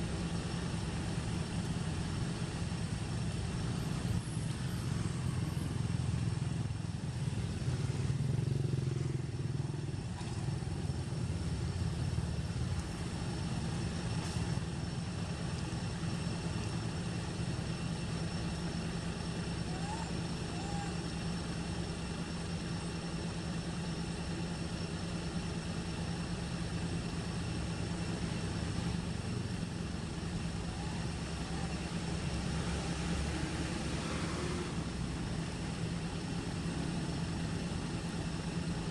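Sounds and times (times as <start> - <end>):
distant traffic rumble: 0.0 - 38.9
faint high whine: 0.0 - 38.9.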